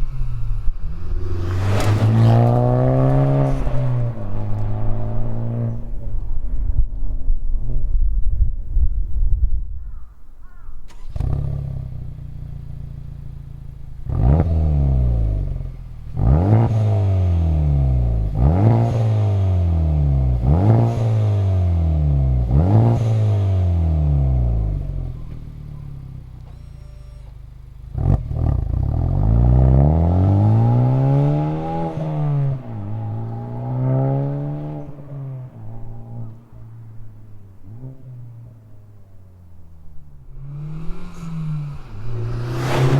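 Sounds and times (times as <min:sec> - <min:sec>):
car engine idling and revving: 0:00.0 - 0:08.6, 0:09.8 - 0:42.9.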